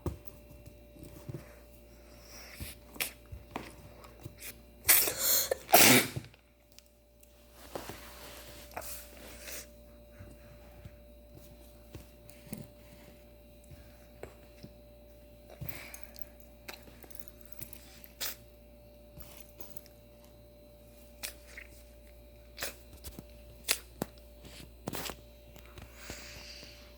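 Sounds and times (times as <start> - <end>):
faint electrical hum: 0.0 - 26.9.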